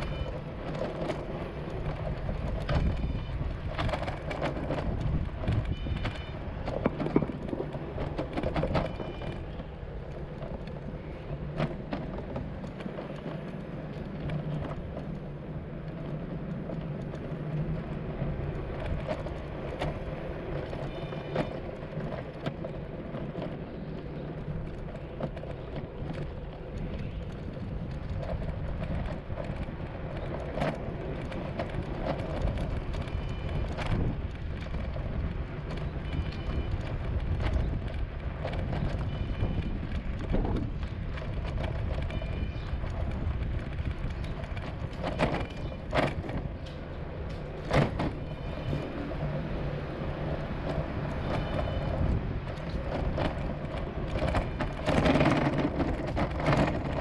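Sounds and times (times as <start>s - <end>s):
low street rumble: 0.0s - 57.0s.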